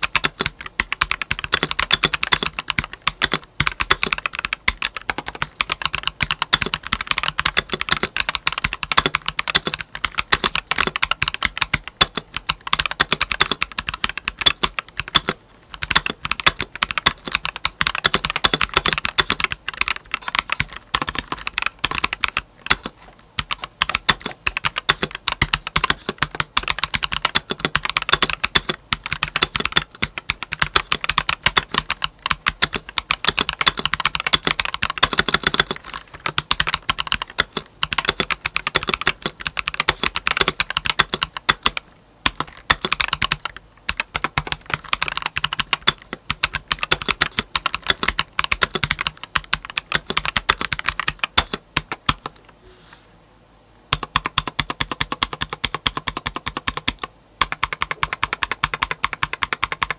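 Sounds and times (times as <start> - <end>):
fast typing on a mechanical keyboard: 0.0 - 52.4, 53.9 - 59.9.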